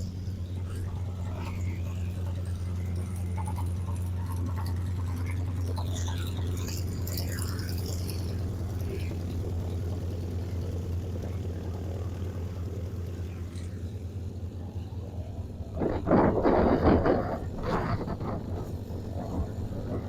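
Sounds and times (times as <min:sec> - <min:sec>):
propeller airplane engine droning: 0:00.0 - 0:20.0.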